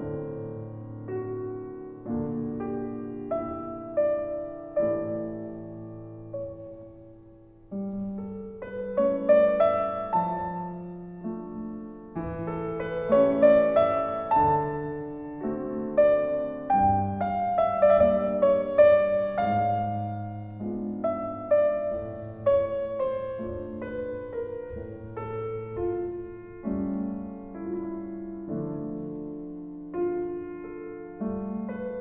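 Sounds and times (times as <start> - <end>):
slow solo piano music: 0.0 - 32.0.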